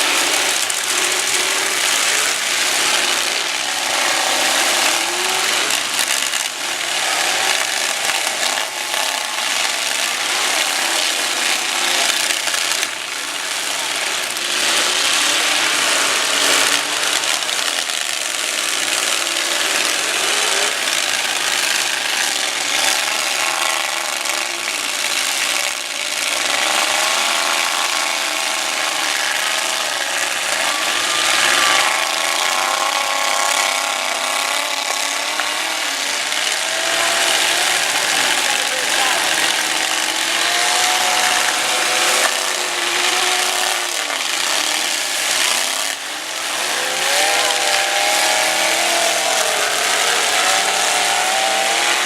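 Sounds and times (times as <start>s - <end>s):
truck engines revving hard: 0.0s - 52.0s.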